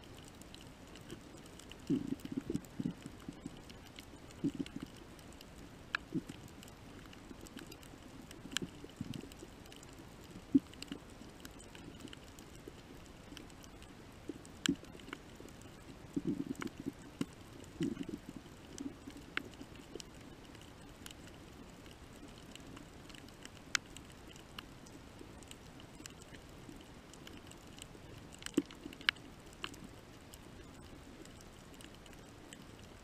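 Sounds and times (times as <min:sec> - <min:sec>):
faint underwater hiss: 0:00.0 - 0:33.0
sharp clicks and crackles: 0:00.0 - 0:33.0.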